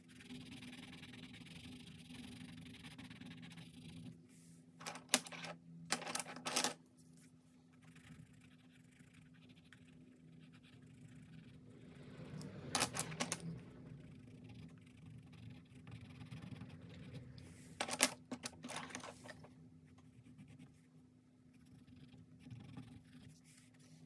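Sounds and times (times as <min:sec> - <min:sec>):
pencil scratching on paper: 0:00.0 - 0:06.2, 0:07.8 - 0:24.0
low steady hum: 0:00.0 - 0:24.0.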